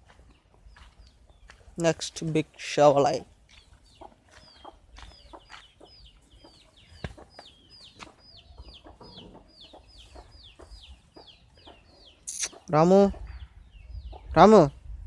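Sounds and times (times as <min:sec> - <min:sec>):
faint bird chirping: 0:00.2 - 0:15.0.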